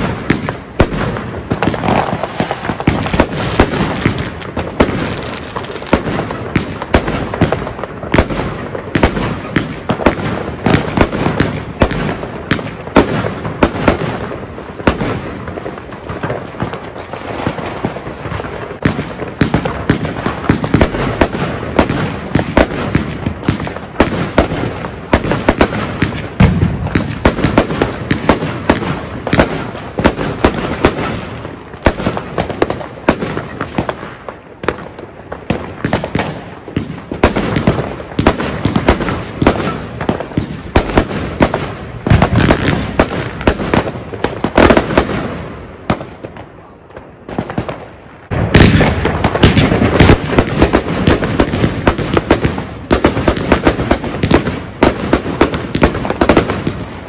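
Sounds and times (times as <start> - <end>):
firework bangs and crackles: 0.0 - 57.0.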